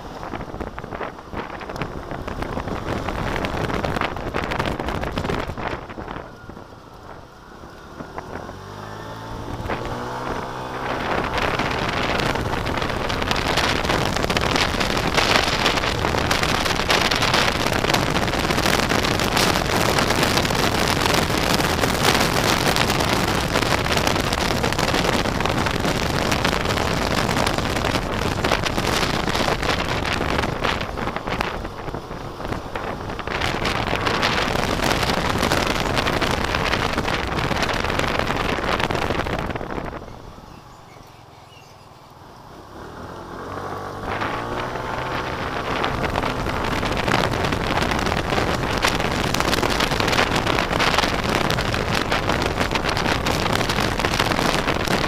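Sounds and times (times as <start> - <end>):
road noise: 0.0 - 55.0
wind buffeting microphone: 0.0 - 55.0
scooter engine revving: 1.0 - 55.0.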